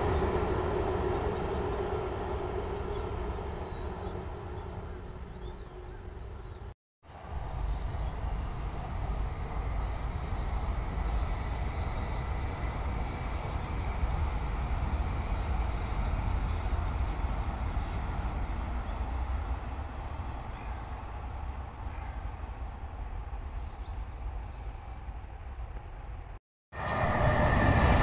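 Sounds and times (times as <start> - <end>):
train crossing a steel bridge: 0.0 - 28.0.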